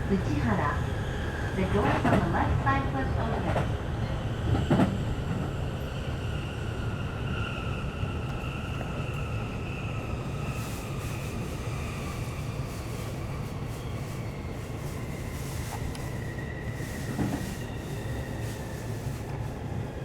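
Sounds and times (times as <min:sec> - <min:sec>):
wheels rumbling on rail: 0:00.0 - 0:06.6, 0:08.1 - 0:20.0.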